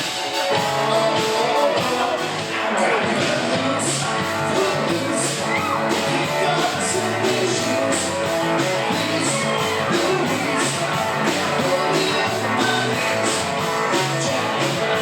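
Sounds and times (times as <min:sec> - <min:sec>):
soft rock band playing: 0:00.0 - 0:15.0.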